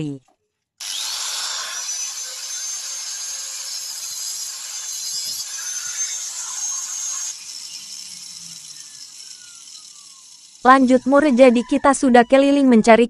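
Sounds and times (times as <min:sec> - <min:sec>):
angle grinder cutting metal: 0:00.8 - 0:11.9.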